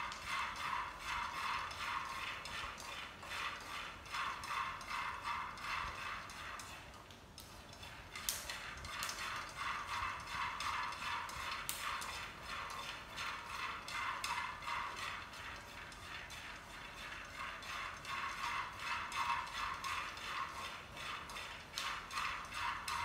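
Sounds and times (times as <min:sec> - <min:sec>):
peanuts rattling and scraping in wok: 0:00.0 - 0:23.0.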